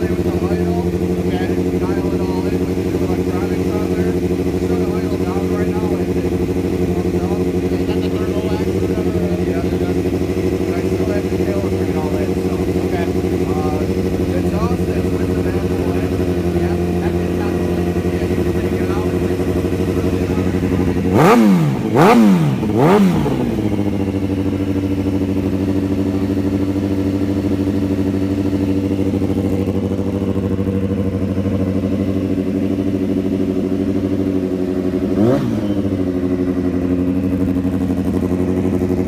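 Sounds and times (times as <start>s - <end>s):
motorcycle engine idling: 0.0s - 39.0s
motorcycle throttle blips: 0.0s - 39.0s.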